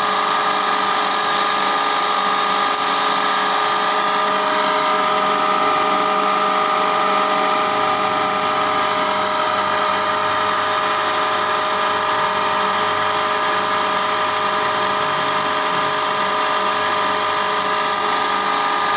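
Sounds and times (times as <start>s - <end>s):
high-pitched machine tone: 0.0s - 18.9s
milling machine whine: 0.0s - 18.9s.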